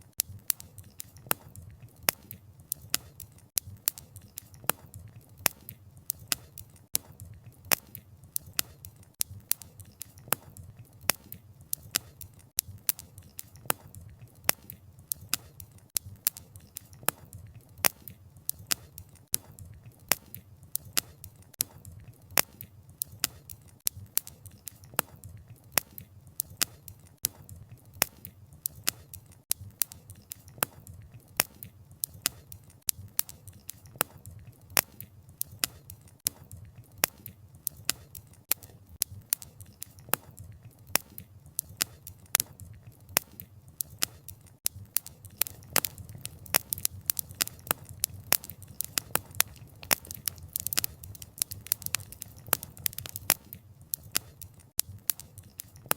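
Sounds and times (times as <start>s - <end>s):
campfire popping and crackling: 0.0s - 55.9s
low rumble of flames: 0.2s - 55.8s.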